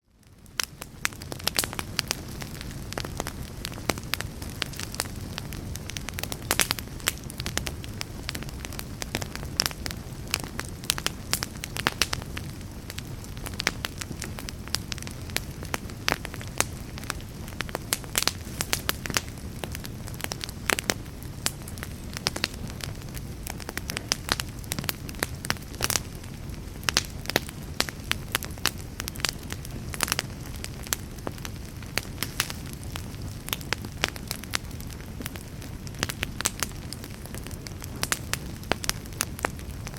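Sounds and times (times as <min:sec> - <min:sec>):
fire crackles and pops: 0:00.0 - 0:39.9
low rumble of flame: 0:00.0 - 0:39.9.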